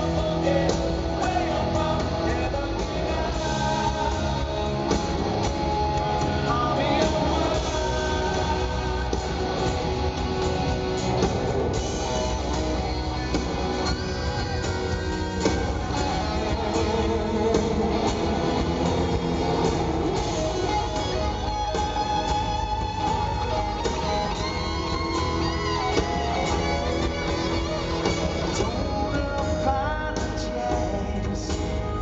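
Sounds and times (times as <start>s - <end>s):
person singing: 0.0s - 10.0s, 13.1s - 32.0s
guitars: 0.0s - 32.0s
live rock band playing: 0.0s - 32.0s.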